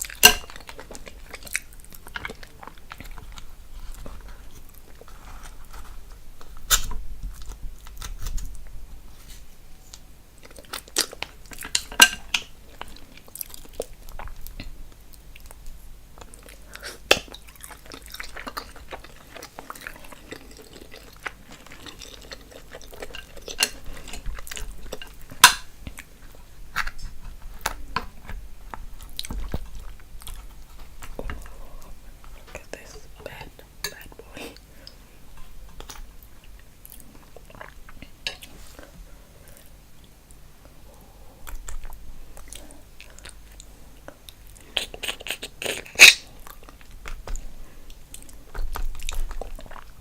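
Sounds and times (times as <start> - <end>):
wet chewing and smacking: 0.0 - 8.8, 9.9 - 50.0.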